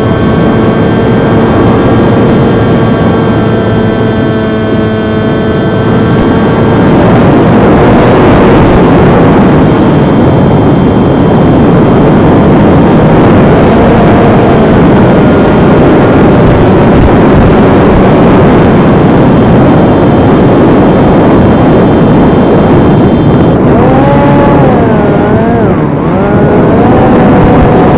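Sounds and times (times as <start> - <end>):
faint motor whine: 0.0 - 27.9
wind on microphone: 0.0 - 27.9.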